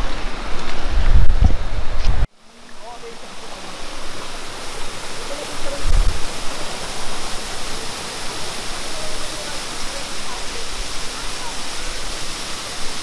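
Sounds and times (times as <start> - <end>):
waterfall splashing onto boulders: 0.0 - 13.0.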